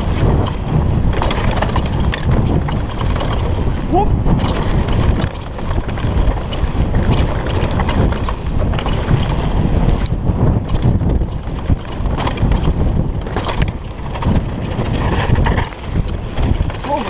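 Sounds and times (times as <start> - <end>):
bike clattering over bumps: 0.0 - 17.0
tyre noise on dirt trail: 0.0 - 17.0
wind buffeting microphone: 0.0 - 17.0.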